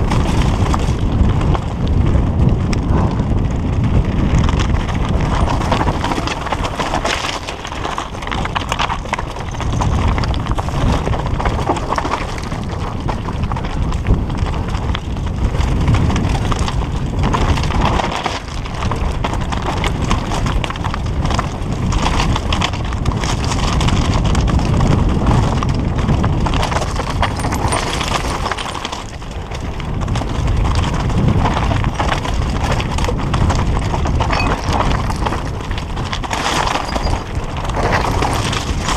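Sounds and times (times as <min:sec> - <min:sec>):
bike rattling and knocking: 0:00.0 - 0:38.9
tyres crunching on stones: 0:04.0 - 0:38.9.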